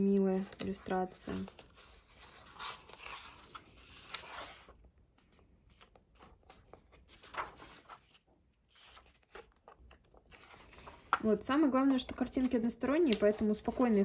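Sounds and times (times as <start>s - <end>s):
book pages turning: 0.0s - 14.0s.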